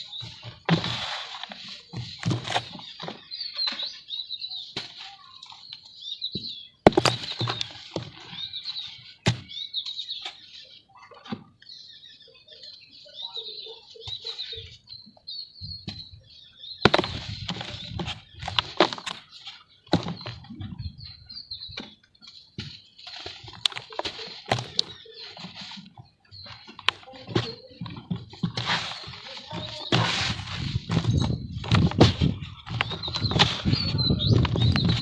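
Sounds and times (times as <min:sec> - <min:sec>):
dry dirt crunching: 0:00.0 - 0:12.2, 0:14.0 - 0:35.0
small birds chirping: 0:00.0 - 0:35.0.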